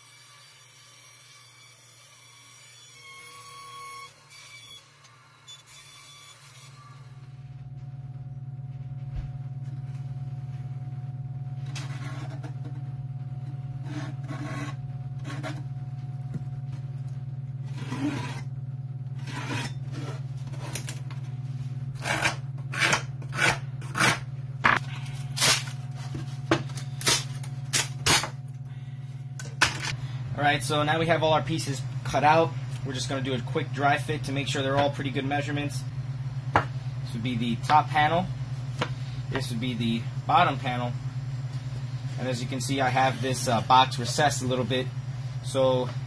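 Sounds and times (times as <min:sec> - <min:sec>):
steady low hum: 0:03.0 - 0:46.0.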